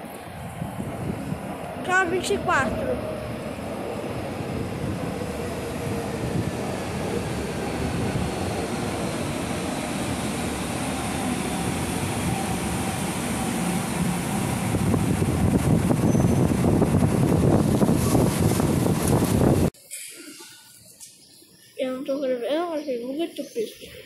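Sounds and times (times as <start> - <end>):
train rumbling into station: 0.0 - 19.7.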